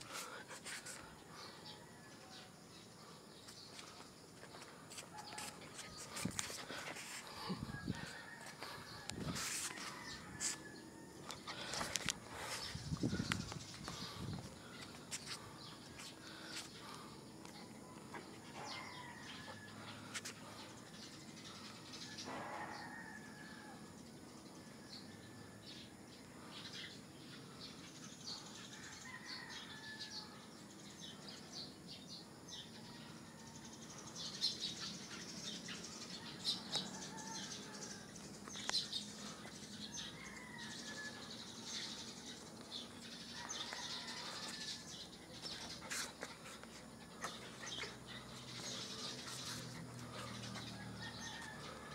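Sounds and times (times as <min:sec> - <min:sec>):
birds chirping: 0:00.0 - 0:25.2, 0:25.8 - 0:51.9.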